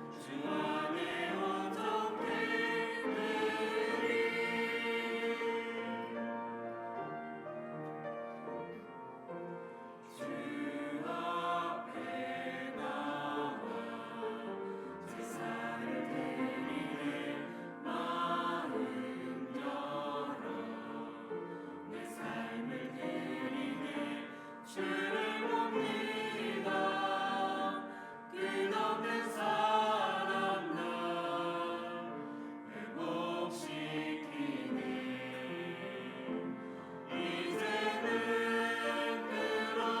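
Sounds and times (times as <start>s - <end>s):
church choir singing: 0.0s - 40.0s.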